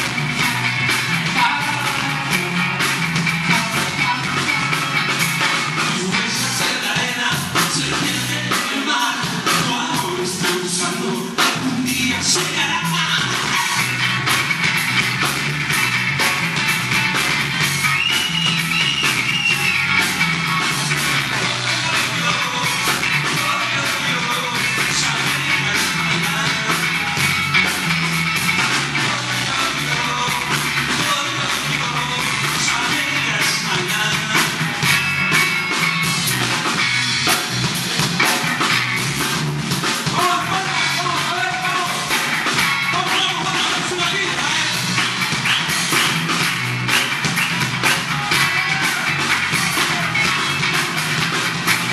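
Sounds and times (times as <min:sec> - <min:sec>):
bass guitar: 0:00.0 - 0:51.9
drum kit beat: 0:00.0 - 0:51.9
live band playing: 0:00.0 - 0:51.9.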